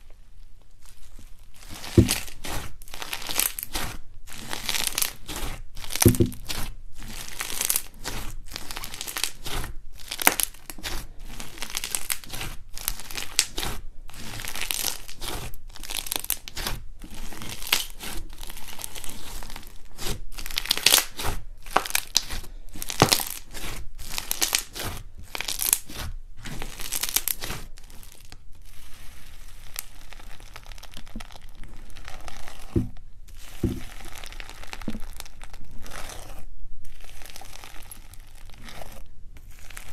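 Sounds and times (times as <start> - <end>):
slime crackling and tearing: 0.8 - 39.9.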